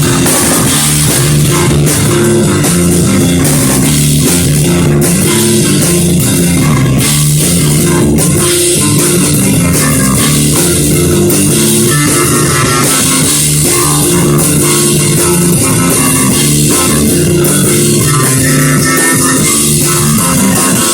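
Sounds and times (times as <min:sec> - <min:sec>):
bass guitar: 0:00.0 - 0:20.9
drum kit: 0:00.0 - 0:20.9
electric guitar: 0:00.0 - 0:20.9.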